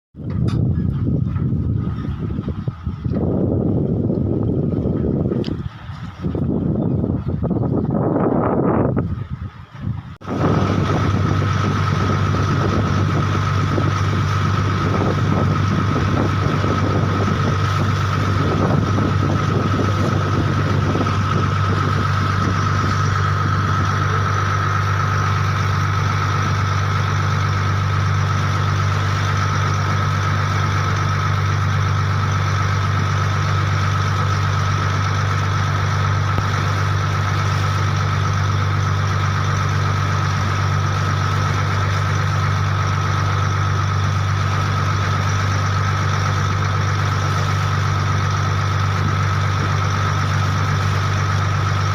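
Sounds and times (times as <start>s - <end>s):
engine running steadily: 0.1s - 51.9s
steady high whine: 0.2s - 51.9s.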